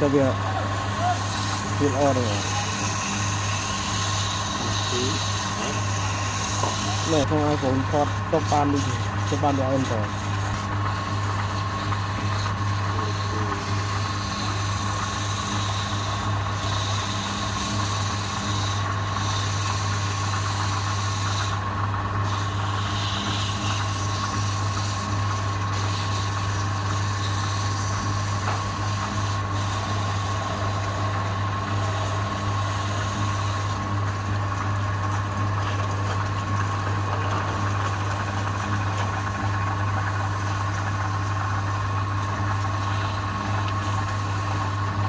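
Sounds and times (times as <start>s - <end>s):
tool scraping spinning wood: 0.0s - 45.0s
wood lathe humming and whining: 0.0s - 45.0s.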